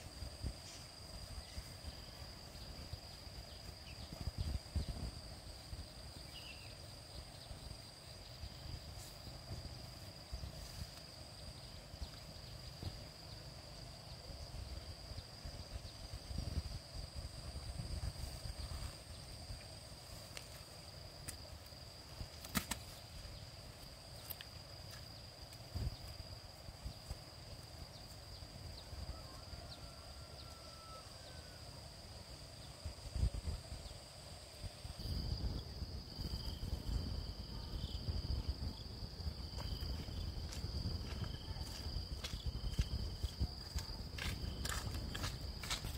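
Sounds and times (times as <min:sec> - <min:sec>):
insect trill: 0:00.0 - 0:45.9.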